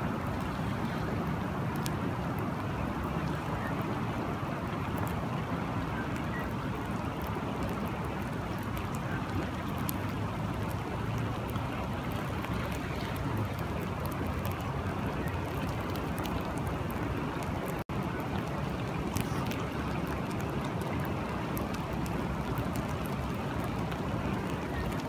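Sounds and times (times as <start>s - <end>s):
rain: 0.0s - 25.0s
river water flowing: 0.0s - 25.0s.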